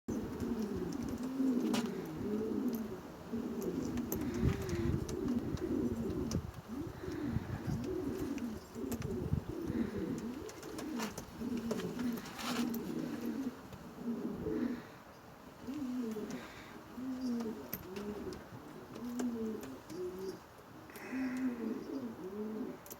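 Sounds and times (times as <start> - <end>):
pigeons cooing: 0.1 - 22.9.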